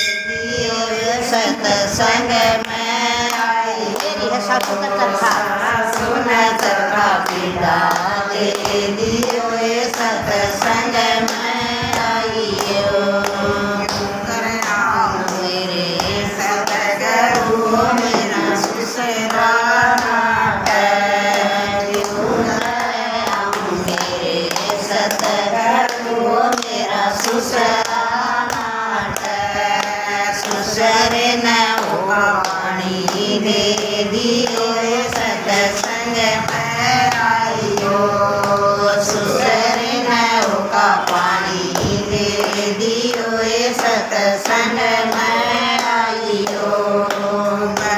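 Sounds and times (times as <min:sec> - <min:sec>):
women singing together: 0:00.0 - 0:47.9
hand claps keeping time: 0:01.2 - 0:47.9.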